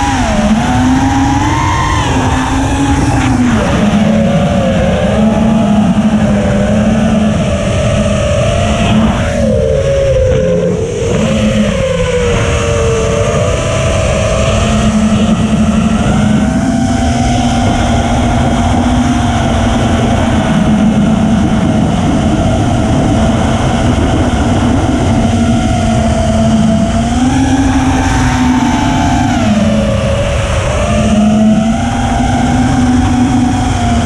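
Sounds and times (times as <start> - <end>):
drone motors whining: 0.0 - 34.0
steady rushing noise: 0.0 - 34.0.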